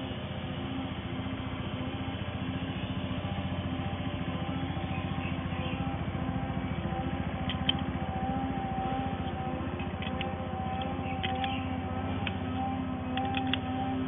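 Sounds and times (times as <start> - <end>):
machine droning: 0.0 - 14.0.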